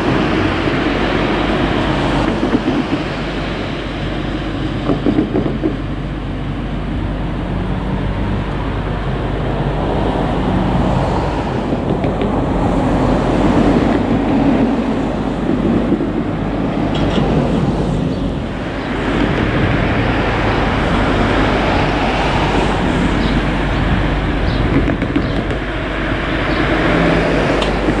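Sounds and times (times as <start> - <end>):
forklift engine rumbling: 0.0 - 28.0.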